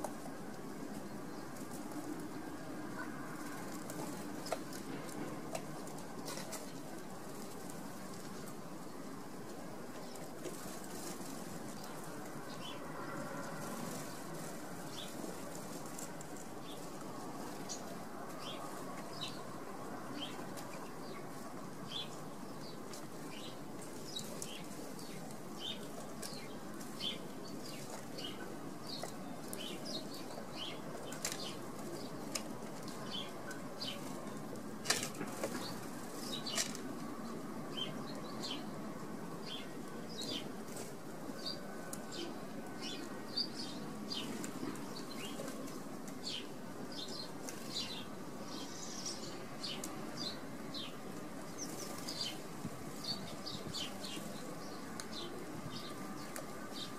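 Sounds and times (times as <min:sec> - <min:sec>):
steady background noise: 0:00.0 - 0:56.9
small birds chirping: 0:00.9 - 0:56.9.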